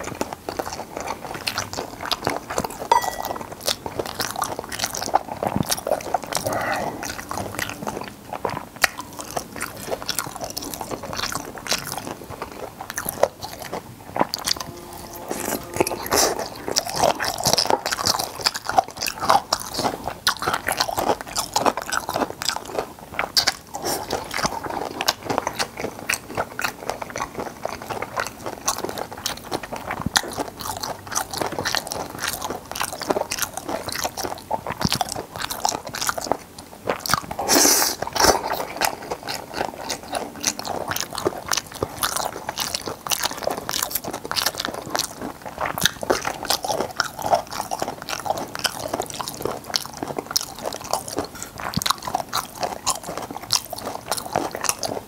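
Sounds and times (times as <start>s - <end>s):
close chewing with crunching: 0.0s - 55.0s.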